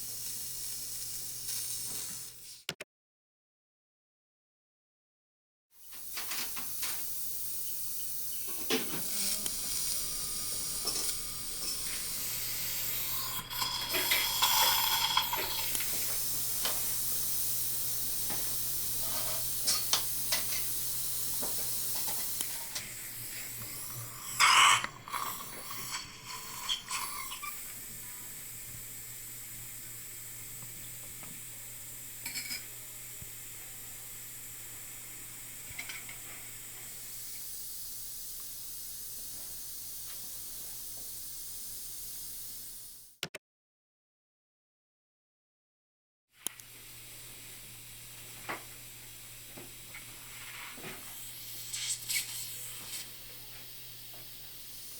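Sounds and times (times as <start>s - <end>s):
dental suction hissing and slurping: 0.0s - 2.7s, 5.8s - 43.2s, 46.5s - 54.9s.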